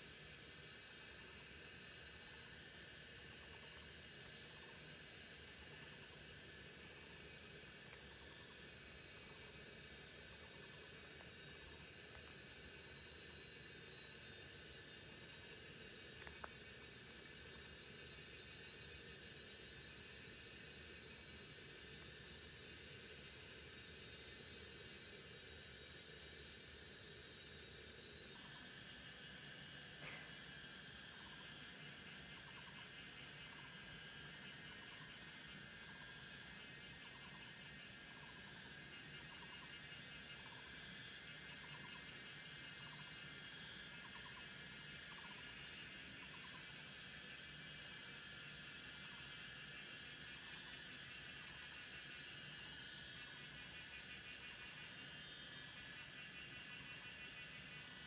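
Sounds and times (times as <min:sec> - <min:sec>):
outdoor ambience hiss: 0:00.0 - 0:58.0.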